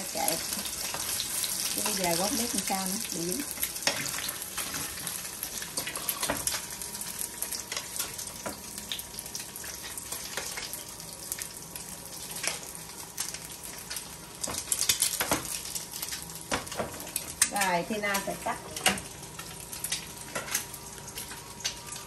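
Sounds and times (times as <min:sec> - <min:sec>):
eggs sizzling in oil: 0:00.0 - 0:22.0
oil crackling and popping: 0:00.0 - 0:22.0.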